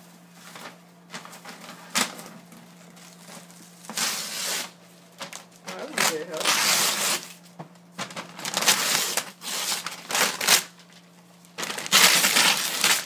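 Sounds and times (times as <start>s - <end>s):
wrapping paper ripping: 0.4s - 13.0s.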